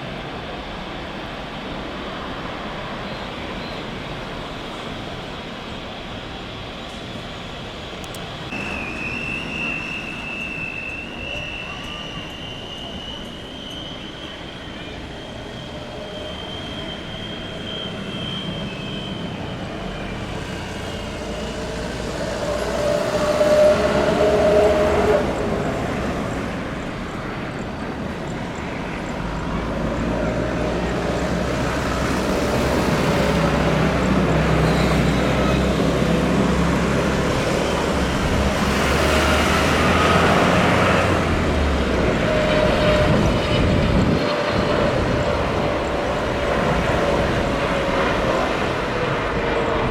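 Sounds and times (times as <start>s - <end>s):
jet engines passing: 0.0s - 49.9s.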